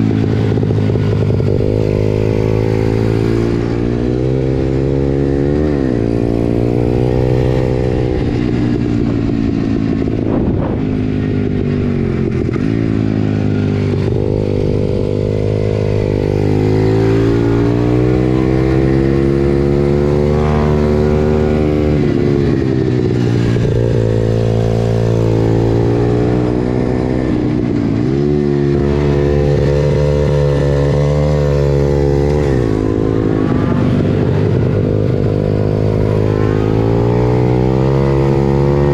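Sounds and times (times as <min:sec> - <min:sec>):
small motorcycle engine revving: 0:00.0 - 0:38.9.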